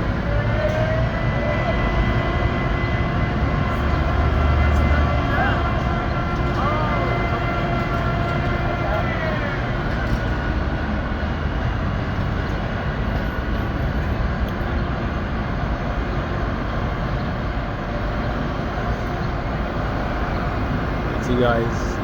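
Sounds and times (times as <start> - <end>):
low rumble of heavy machinery: 0.0 - 22.0.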